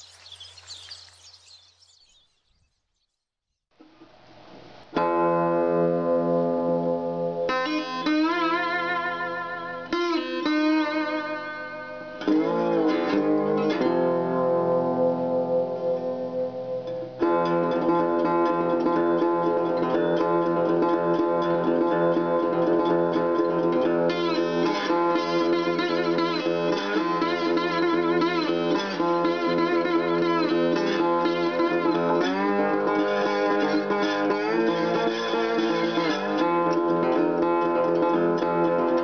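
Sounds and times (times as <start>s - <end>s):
plucked acoustic guitar: 5.0s - 39.0s.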